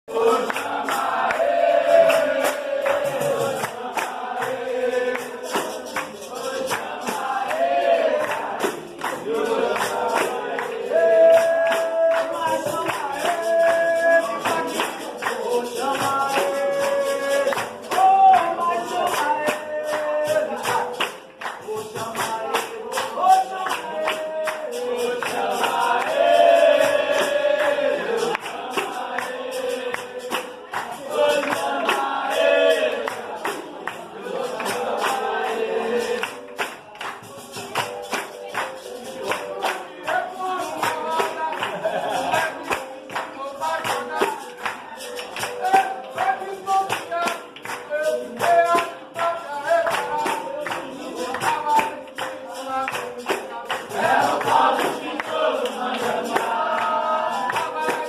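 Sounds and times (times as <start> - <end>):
pandeiro beat: 0.1 - 58.0
person singing: 0.1 - 58.0.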